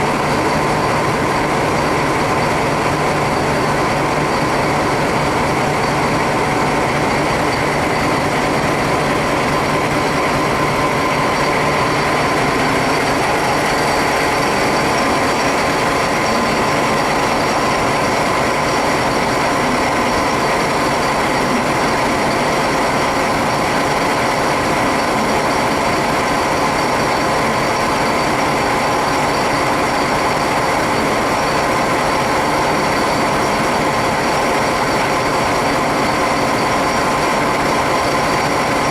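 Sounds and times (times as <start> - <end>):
diesel locomotive engine idling: 0.0 - 38.9.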